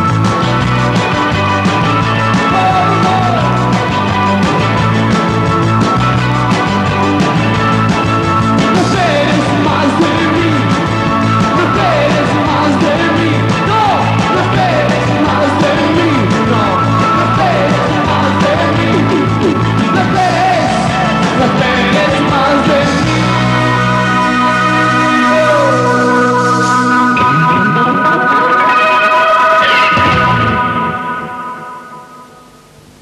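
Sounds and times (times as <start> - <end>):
rock band playing live: 0.0 - 32.5
bass guitar: 0.0 - 33.0
drums: 0.0 - 33.0
electric guitar: 0.0 - 33.0.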